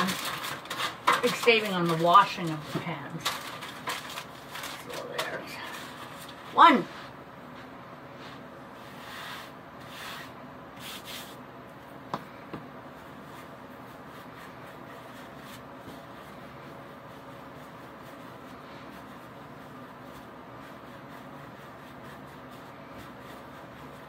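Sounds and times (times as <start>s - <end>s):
hands rubbing dough: 0.0s - 11.4s, 12.2s - 24.0s
faint steady hum: 0.0s - 24.0s.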